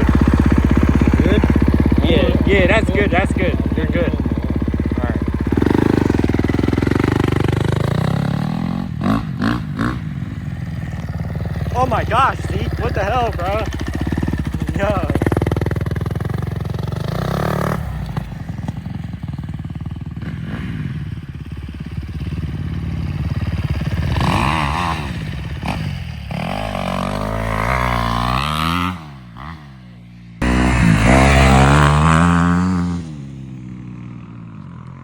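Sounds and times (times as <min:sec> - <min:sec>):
dirt bike engine revving: 0:00.0 - 0:34.5.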